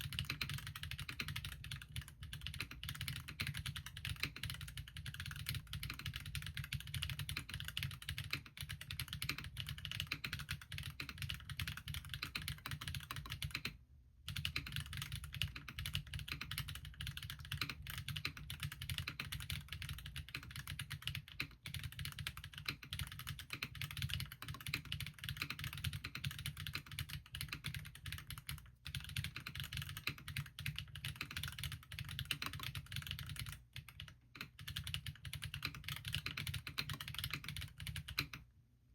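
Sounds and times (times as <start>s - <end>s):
fast mechanical keyboard typing: 0.0s - 38.5s.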